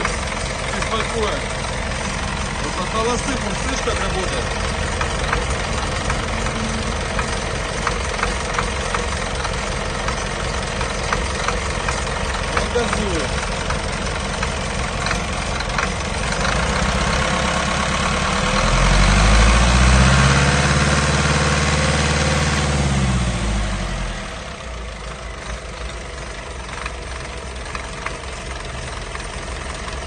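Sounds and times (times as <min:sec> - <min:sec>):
diesel engine idling and revving: 0:00.0 - 0:30.0.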